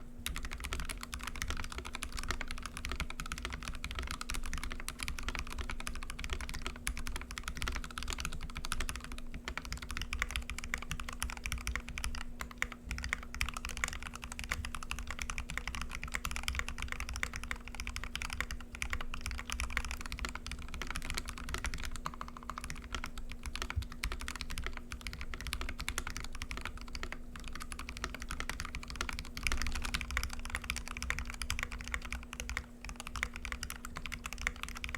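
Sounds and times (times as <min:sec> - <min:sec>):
steady low hum: 0:00.0 - 0:34.9
mechanical keyboard typing: 0:00.2 - 0:34.9.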